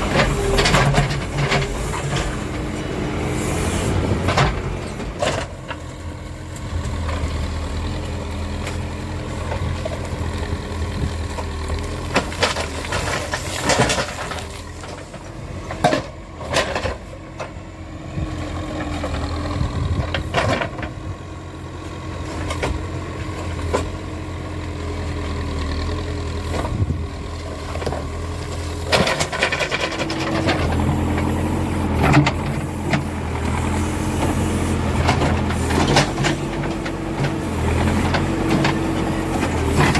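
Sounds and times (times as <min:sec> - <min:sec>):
backhoe diesel engine under load: 0:00.0 - 0:39.9.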